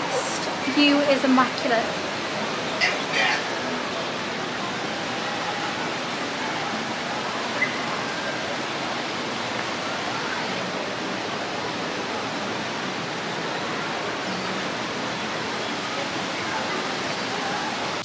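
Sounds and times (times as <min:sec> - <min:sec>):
falling water rushing: 0:00.0 - 0:18.0.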